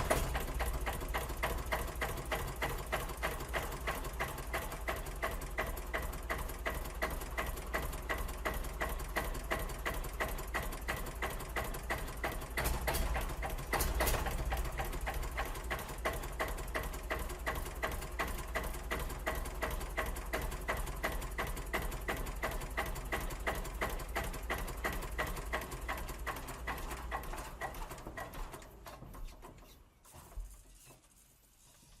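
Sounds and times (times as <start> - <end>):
tractor engine chugging: 0.0 - 29.0.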